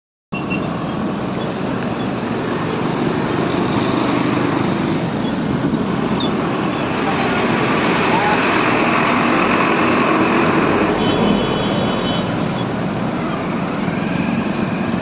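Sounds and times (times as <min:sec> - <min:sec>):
traffic in heavy rain: 0:00.4 - 0:15.0.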